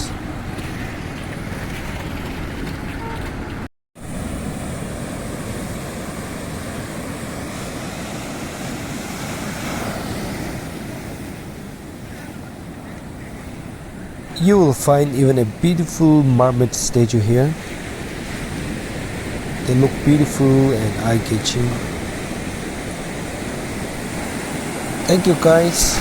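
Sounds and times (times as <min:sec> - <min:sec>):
sea waves washing onto beach: 0:04.0 - 0:26.0.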